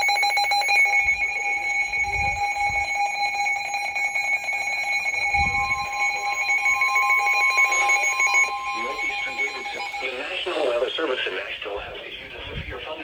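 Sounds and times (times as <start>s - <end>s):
steady electronic tone: 0.0s - 11.6s
fast-pulsing electronic alarm beep: 0.0s - 12.7s.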